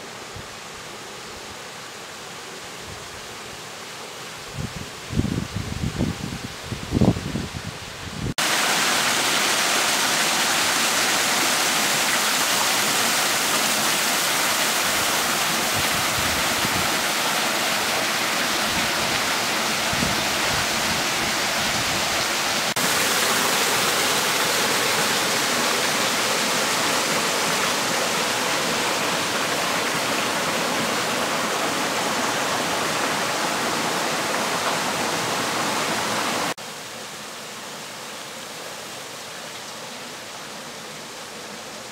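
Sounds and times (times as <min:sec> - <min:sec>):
water rushing and splashing: 0:06.0 - 0:41.9.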